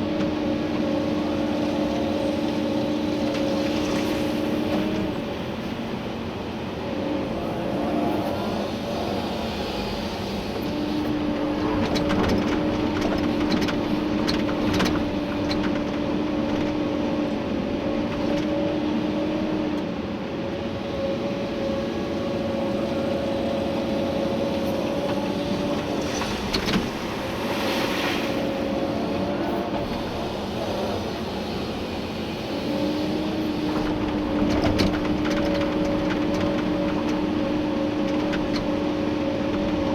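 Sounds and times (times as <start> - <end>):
excavator engine and hydraulics whine: 0.0 - 39.9.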